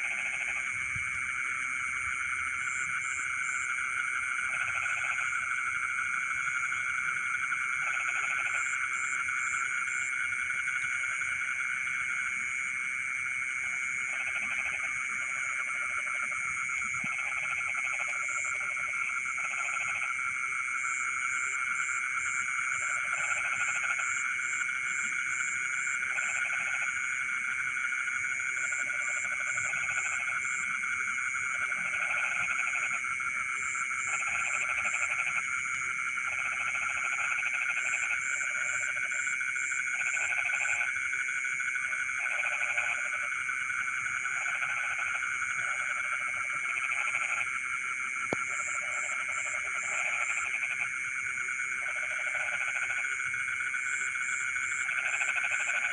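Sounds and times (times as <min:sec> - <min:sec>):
frog croaks: 0:00.0 - 0:55.9
frogs trilling chorus: 0:00.0 - 0:55.9.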